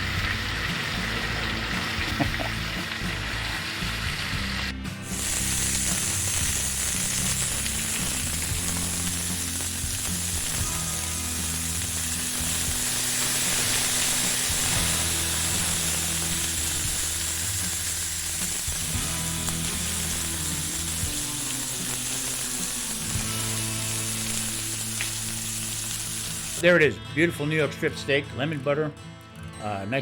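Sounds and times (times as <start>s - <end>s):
steaks sizzling in a pan: 0.0s - 26.6s
background music: 0.0s - 30.0s.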